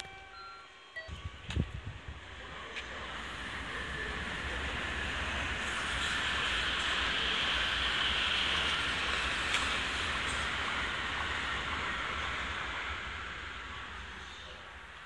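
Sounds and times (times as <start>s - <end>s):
high-speed train rushing past: 0.2s - 15.0s.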